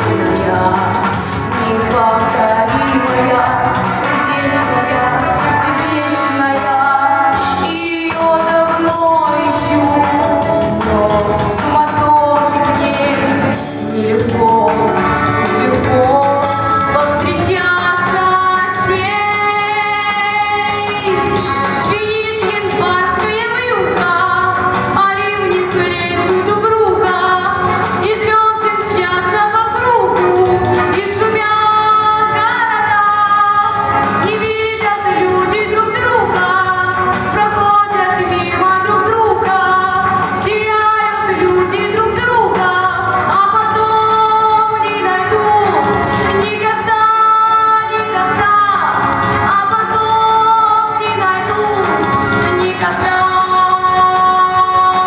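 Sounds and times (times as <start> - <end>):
woman singing pop song: 0.0 - 55.0.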